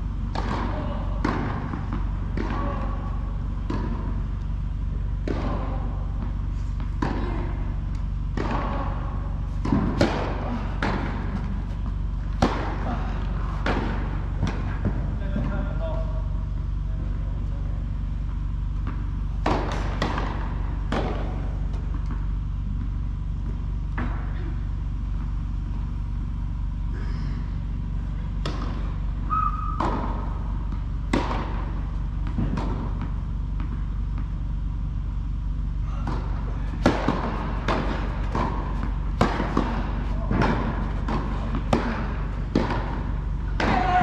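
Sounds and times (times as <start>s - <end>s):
rackets hitting tennis ball: 0.0s - 26.9s, 27.5s - 44.0s
low hum: 0.0s - 44.0s
tennis ball bouncing on court: 0.2s - 15.7s, 18.7s - 24.4s, 28.3s - 35.0s, 36.0s - 44.0s.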